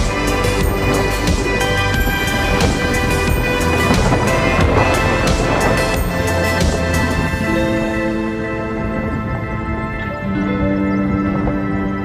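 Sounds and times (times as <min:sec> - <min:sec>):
music of long held notes: 0:00.0 - 0:12.0.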